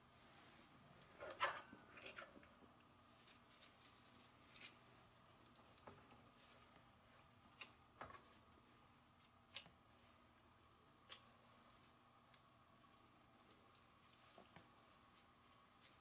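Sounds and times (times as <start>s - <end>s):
gloved hands squeezing sticky rice: 1.8s - 16.0s.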